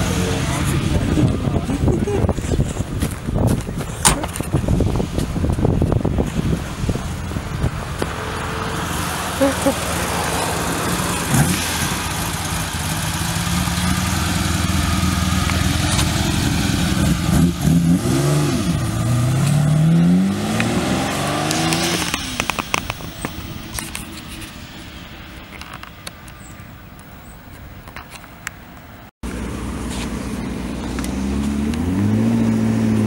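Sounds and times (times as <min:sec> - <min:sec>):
car engine accelerating: 0:00.0 - 0:25.0, 0:29.2 - 0:33.0
exhaust crackles: 0:00.0 - 0:26.5.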